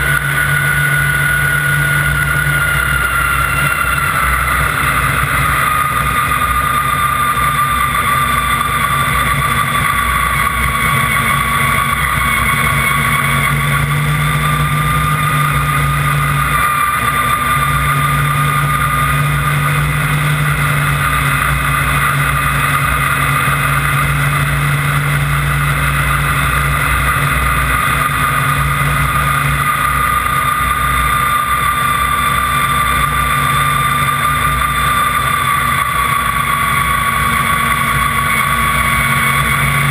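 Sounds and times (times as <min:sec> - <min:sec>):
high engine whine: 0:00.0 - 0:39.9
snowmobile engine droning: 0:00.0 - 0:39.9.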